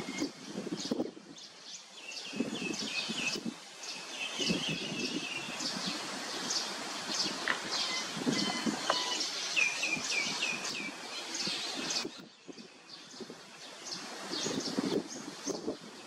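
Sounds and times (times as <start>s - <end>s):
birds chirping: 0.0s - 16.0s
rustling leaves and branches: 0.0s - 16.0s.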